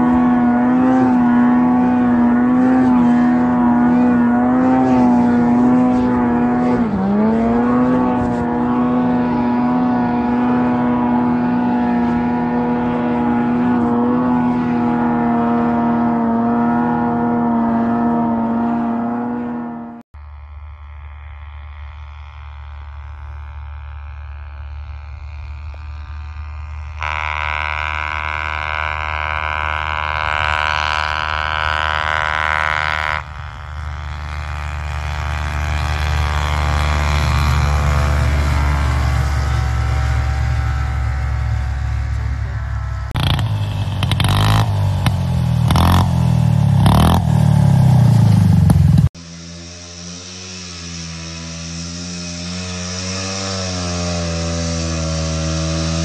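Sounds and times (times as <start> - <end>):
engine revving hard: 0.0 - 20.0, 26.6 - 56.0
snowmobile engine running: 0.0 - 56.0.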